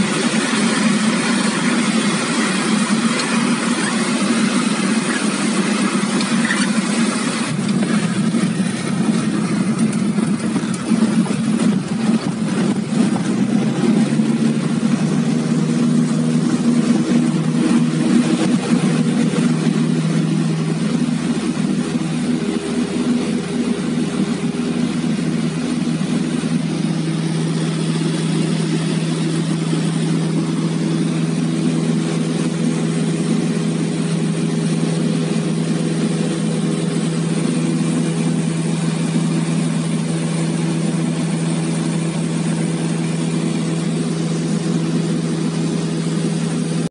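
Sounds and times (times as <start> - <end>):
aircraft engine and propeller drone: 0.0 - 46.9
wheels rumbling over grass: 2.4 - 46.9.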